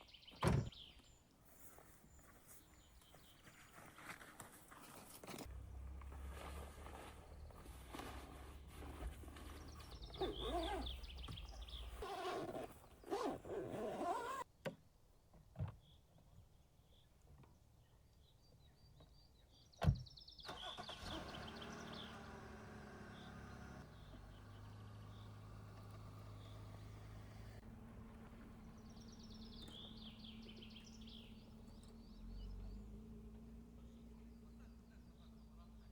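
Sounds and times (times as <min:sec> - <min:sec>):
songbird singing: 0:00.0 - 0:03.9, 0:05.5 - 0:14.4, 0:15.8 - 0:35.9.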